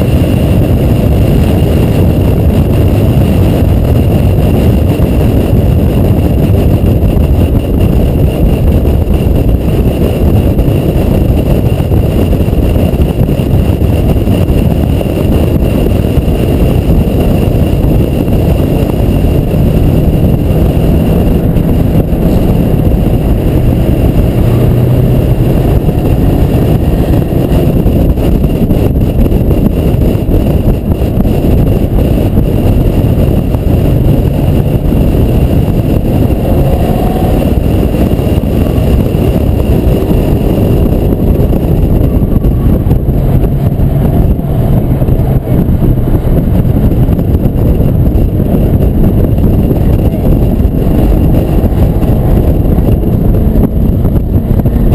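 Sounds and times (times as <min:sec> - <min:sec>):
car engine and tyre drone: 0:00.0 - 0:54.9
wind rushing on microphone: 0:00.0 - 0:54.9.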